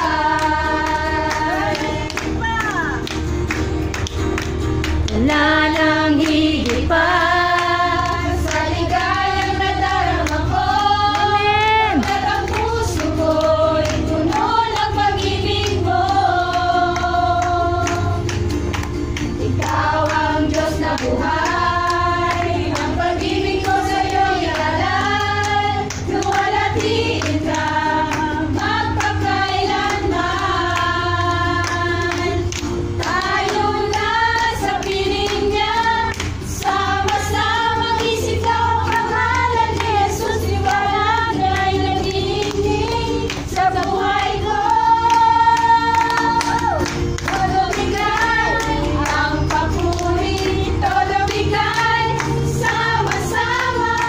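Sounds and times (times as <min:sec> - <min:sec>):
women singing worship song: 0:00.0 - 0:03.1, 0:05.0 - 0:18.8, 0:19.4 - 0:54.0
acoustic guitar: 0:00.0 - 0:54.0
hand clapping: 0:00.0 - 0:54.0.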